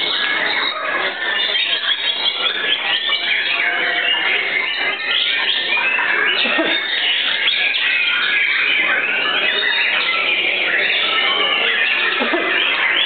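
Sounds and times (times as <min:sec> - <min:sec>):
chorus of songbirds singing: 0:00.0 - 0:13.0.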